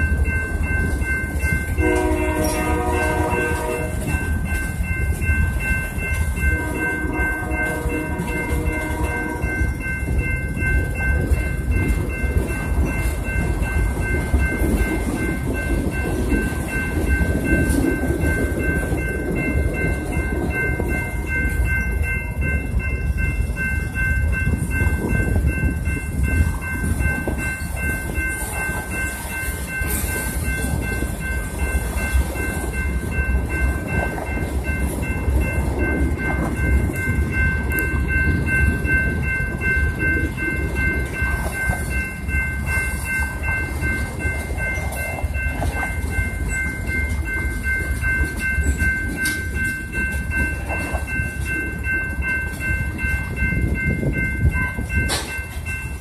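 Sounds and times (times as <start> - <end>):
crossing warning bell ringing: 0.0 - 56.0
train wheels clacking on rails: 0.0 - 56.0.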